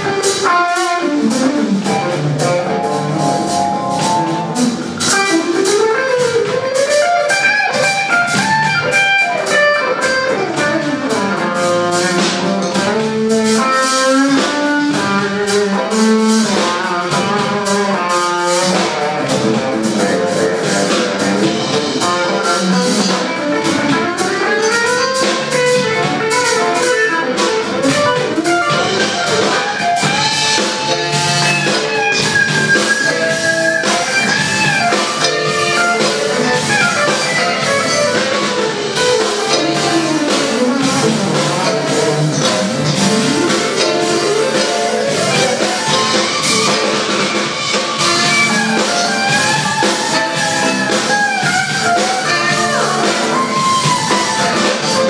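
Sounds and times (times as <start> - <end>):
electric guitar lead melody: 0.0 - 55.0
smooth jazz band playing: 0.0 - 55.0.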